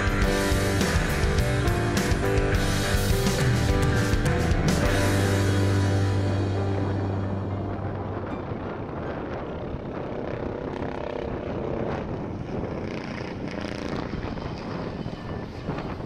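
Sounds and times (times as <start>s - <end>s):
helicopter rotor and turbine: 0.0s - 16.0s.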